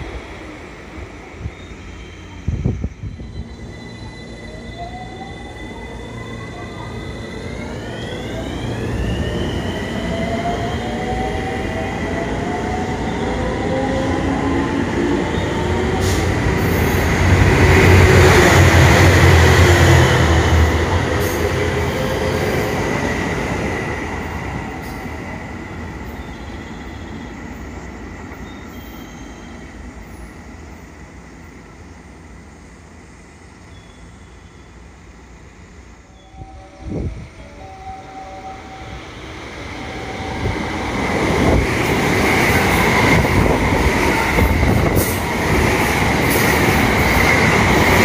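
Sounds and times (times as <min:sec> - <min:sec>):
train passing: 0:00.0 - 0:48.0.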